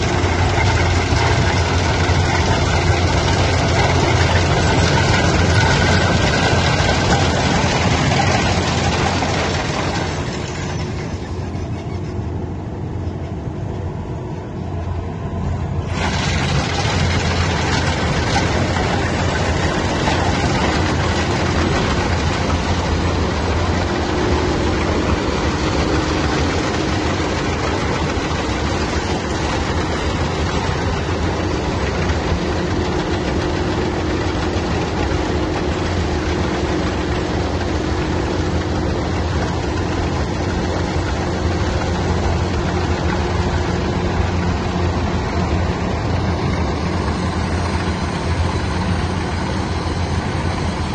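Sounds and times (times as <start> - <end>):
heavy machine engine running: 0.0 - 50.9.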